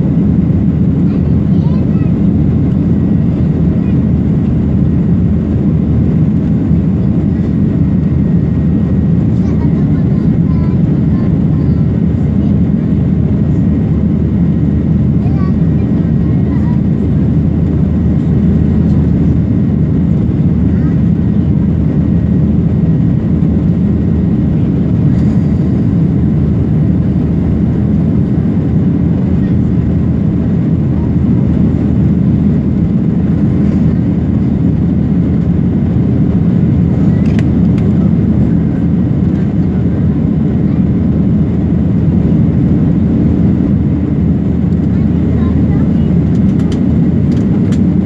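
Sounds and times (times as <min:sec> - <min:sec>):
airliner engine rumble: 0:00.0 - 0:48.0.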